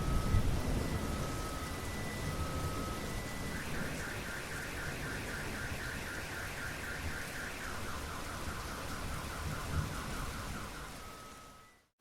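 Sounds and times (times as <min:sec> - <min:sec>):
car alarm pulsing tone: 0:00.0 - 0:11.8
steady rain: 0:00.0 - 0:11.9.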